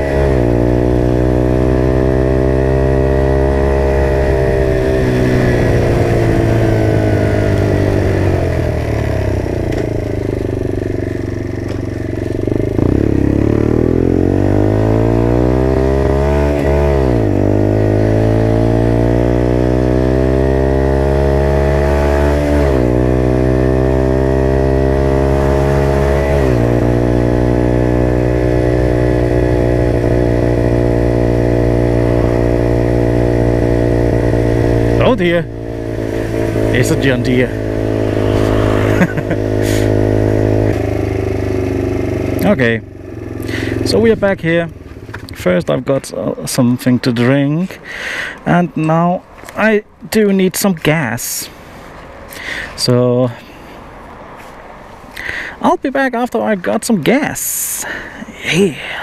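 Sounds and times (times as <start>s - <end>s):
minibike engine revving: 0.0s - 49.8s.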